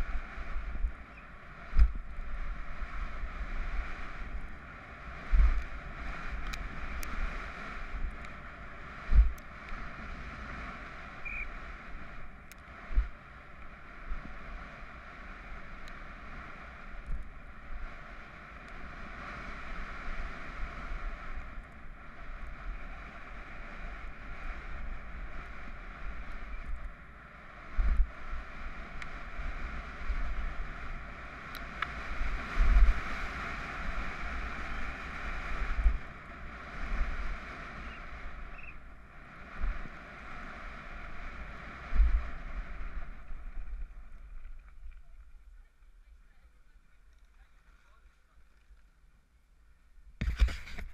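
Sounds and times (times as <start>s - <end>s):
wind rushing on helmet: 0.0s - 45.6s, 50.2s - 50.9s
bike tyres rolling on gravel: 0.0s - 49.2s.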